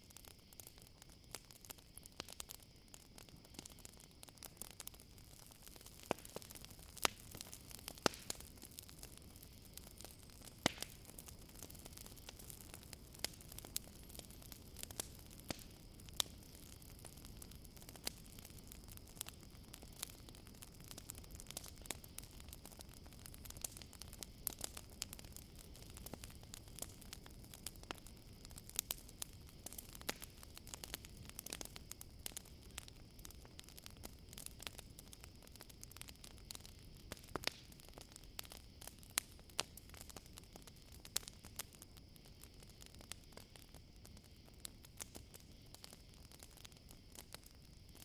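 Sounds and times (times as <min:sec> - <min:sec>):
campfire crackling and popping: 0:00.0 - 0:48.0
crickets trilling: 0:00.0 - 0:48.0.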